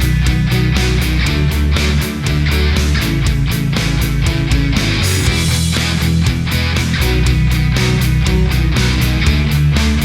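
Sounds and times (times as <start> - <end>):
driving drum beat: 0.0 - 10.0
rock music with distorted guitar: 0.0 - 10.0.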